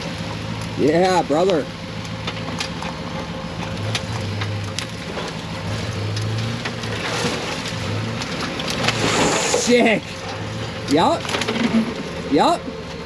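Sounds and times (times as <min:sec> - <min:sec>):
off-road vehicle engine: 0:00.0 - 0:13.0
rocks crunching under tyres: 0:00.0 - 0:13.0.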